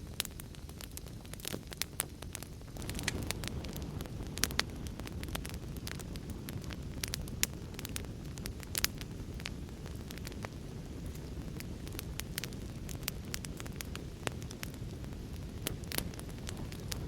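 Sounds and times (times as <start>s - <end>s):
fire pops: 0.0s - 17.0s
wood fire crackling: 0.0s - 17.0s.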